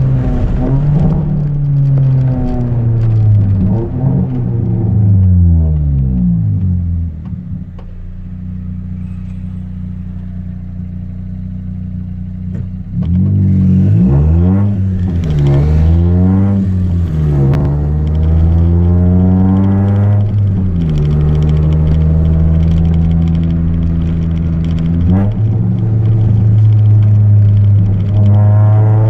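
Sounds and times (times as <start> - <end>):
car engine running and revving: 0.0 - 29.0.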